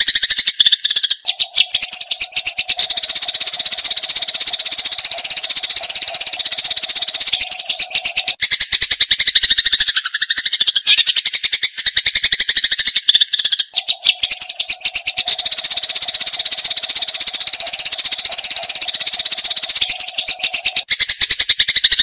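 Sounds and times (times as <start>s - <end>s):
sparrow chattering chirps: 0.0s - 22.0s.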